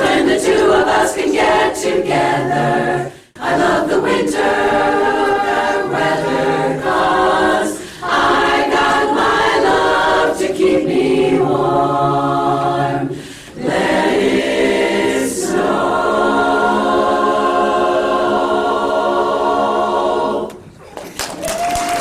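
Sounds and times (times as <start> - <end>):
choir singing a cappella: 0.0 - 20.7.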